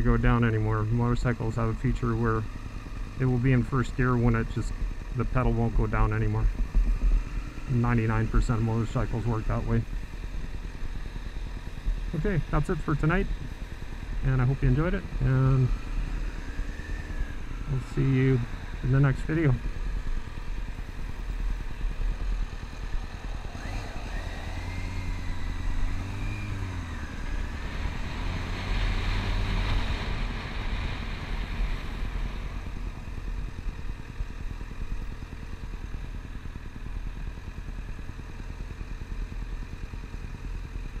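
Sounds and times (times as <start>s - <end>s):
motorcycle engine rumbling: 0.0s - 41.0s.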